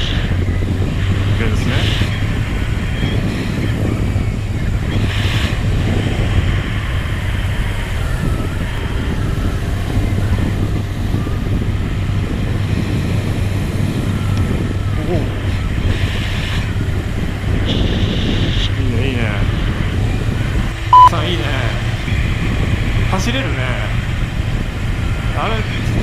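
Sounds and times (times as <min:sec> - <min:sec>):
motorcycle engine cruising: 0:00.0 - 0:26.0
wind noise on microphone: 0:00.0 - 0:26.0.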